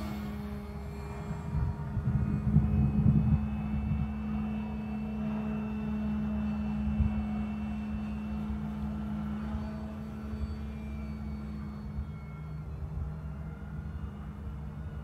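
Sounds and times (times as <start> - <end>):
model plane motor humming: 0.0 - 15.0
wind rumble on microphone: 0.0 - 15.0.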